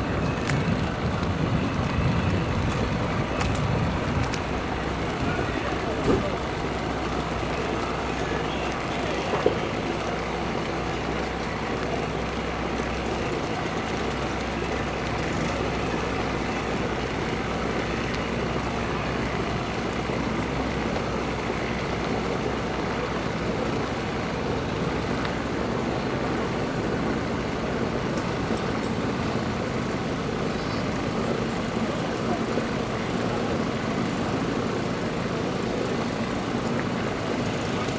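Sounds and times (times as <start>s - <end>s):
engine running steadily: 0.0s - 37.9s
noisy outdoor background: 0.0s - 37.9s.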